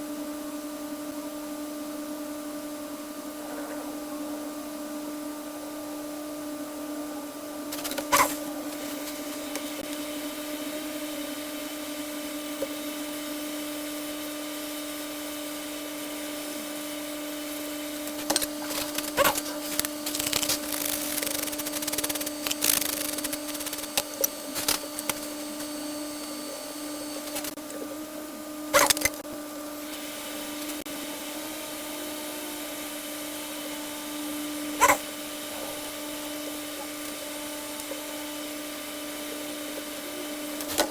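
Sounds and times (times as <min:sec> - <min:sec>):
bench equipment hum and hiss: 0:00.0 - 0:40.9.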